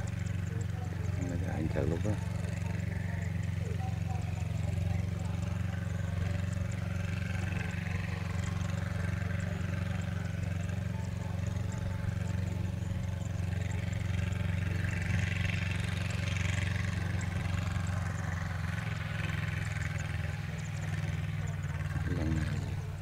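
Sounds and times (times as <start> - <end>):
diesel tractor engine running: 0.0 - 23.0.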